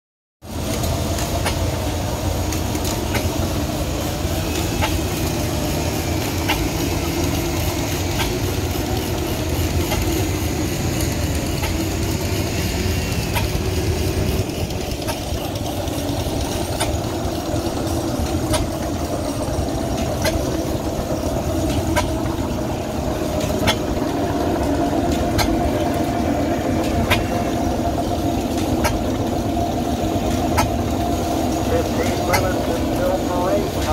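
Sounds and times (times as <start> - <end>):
stationary engine running: 0.4 - 33.9.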